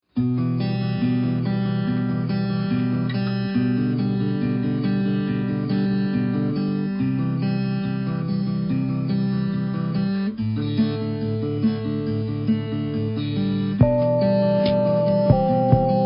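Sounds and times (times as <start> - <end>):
guitar music: 0.1 - 16.0.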